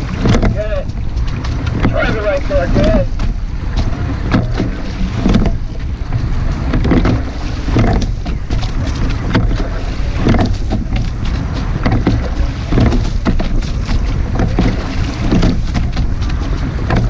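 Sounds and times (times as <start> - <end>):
water rushing: 0.0 - 17.0
wind noise on microphone: 0.0 - 17.0
oarlocks knocking: 0.1 - 17.0.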